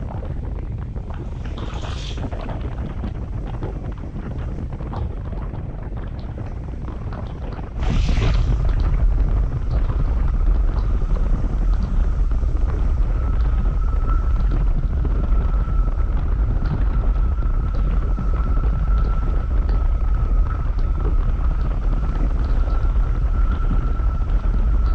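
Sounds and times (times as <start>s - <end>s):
thin steady whine: 0.0s - 24.9s
wind buffeting microphone: 0.0s - 24.9s.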